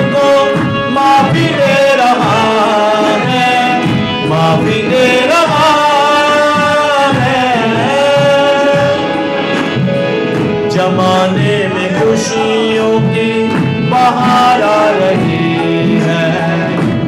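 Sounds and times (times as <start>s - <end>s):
devotional song with wavering melody: 0.0s - 17.0s
person singing: 0.0s - 17.0s
rhythmic accompaniment: 0.0s - 17.0s.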